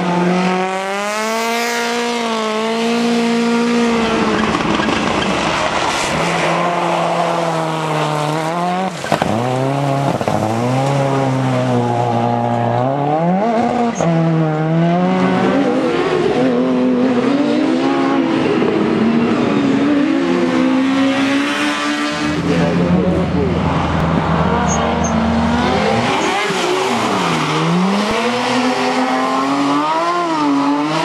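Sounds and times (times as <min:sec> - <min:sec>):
rally car engine at full throttle: 0:00.0 - 0:31.0.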